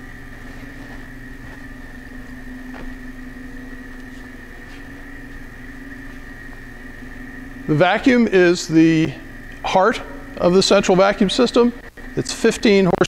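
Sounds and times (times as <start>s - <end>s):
industrial machine hum: 0.0s - 13.0s.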